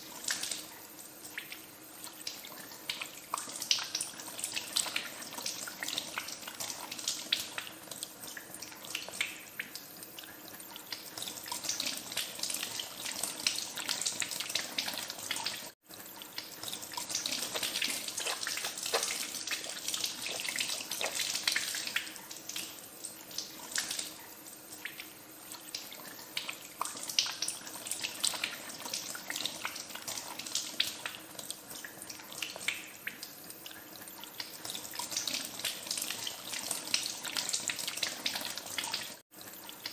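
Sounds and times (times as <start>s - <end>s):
hands washing with small splashes: 0.0s - 39.9s.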